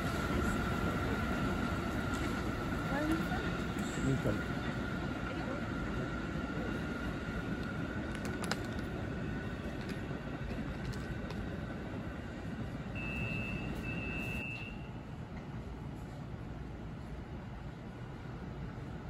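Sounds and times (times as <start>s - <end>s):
subway train rumble: 0.0s - 19.0s.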